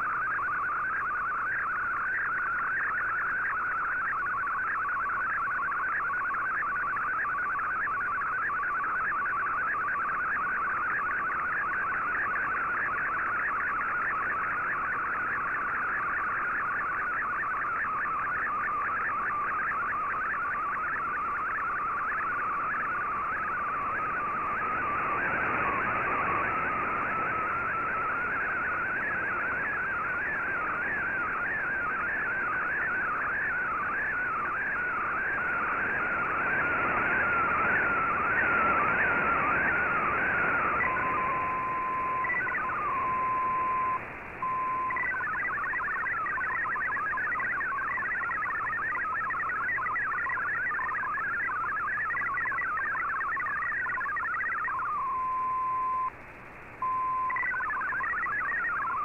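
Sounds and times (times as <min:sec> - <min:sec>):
fast-warbling data tone: 0:00.0 - 0:56.1, 0:56.8 - 0:59.0
radio background hiss: 0:09.7 - 0:59.0.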